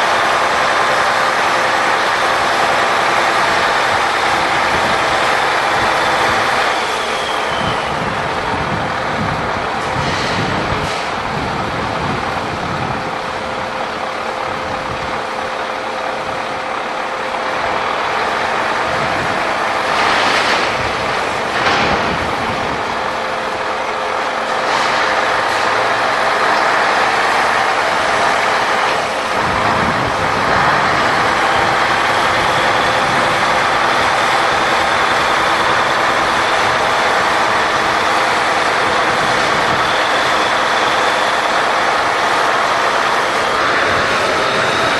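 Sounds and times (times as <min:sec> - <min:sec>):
truck engine running: 0:00.0 - 0:44.9.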